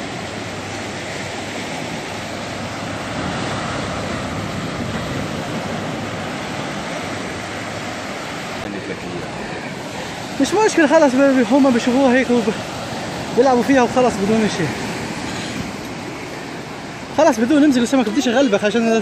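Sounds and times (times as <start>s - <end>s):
sea surf washing onto beach: 0.0s - 19.0s.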